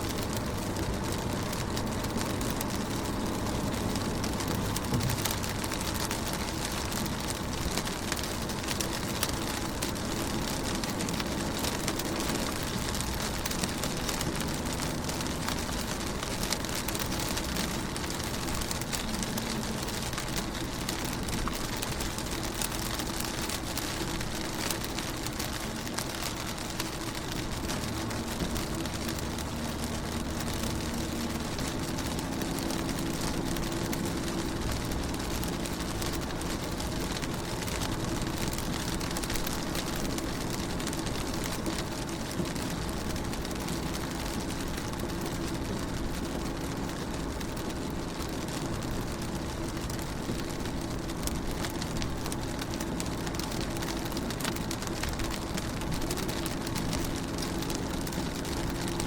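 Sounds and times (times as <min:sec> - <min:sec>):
rain on a car window: 0:00.0 - 0:59.0.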